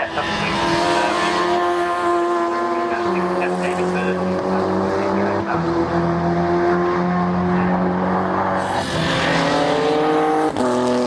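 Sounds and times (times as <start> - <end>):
racing car engines: 0.0 - 11.0.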